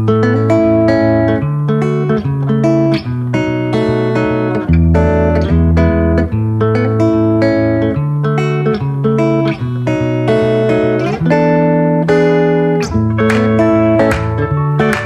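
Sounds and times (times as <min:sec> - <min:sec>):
plucked guitar notes: 0:00.0 - 0:15.0.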